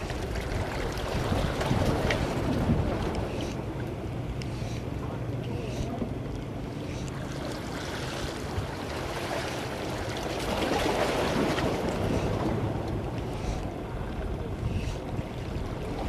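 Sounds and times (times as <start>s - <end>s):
sea water washing against rocks: 0.0s - 4.0s, 6.4s - 16.0s
wind on microphone: 0.0s - 6.8s, 8.4s - 16.0s.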